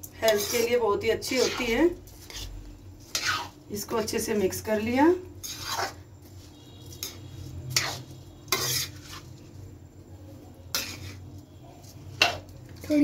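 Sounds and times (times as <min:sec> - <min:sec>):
metal spatula scraping pan: 0:00.2 - 0:09.5, 0:10.7 - 0:12.5.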